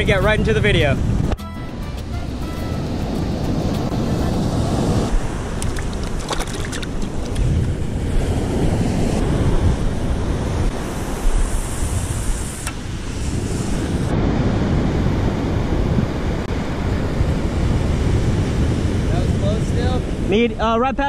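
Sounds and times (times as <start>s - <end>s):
wind buffeting microphone: 0.0s - 20.7s.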